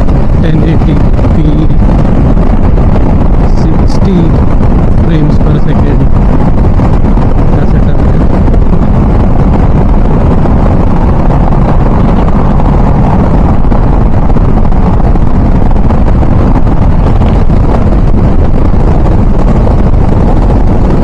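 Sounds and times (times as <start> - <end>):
motorcycle deep hum: 0.0 - 21.0
wind rush: 0.0 - 21.0.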